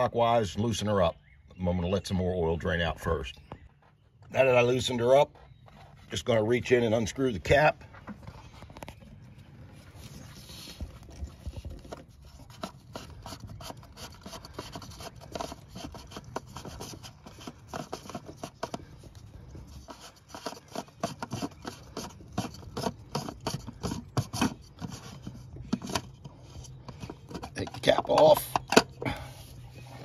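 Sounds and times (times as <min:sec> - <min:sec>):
cap scraping and rubbing: 0:03.8 - 0:30.0.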